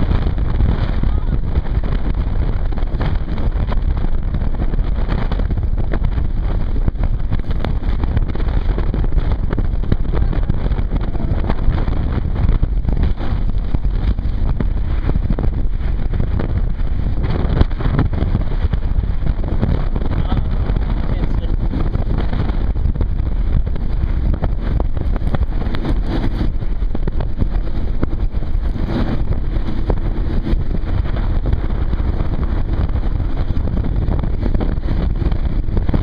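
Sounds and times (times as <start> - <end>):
motorboat engine running: 0.0 - 36.0
wind buffeting microphone: 0.0 - 36.0.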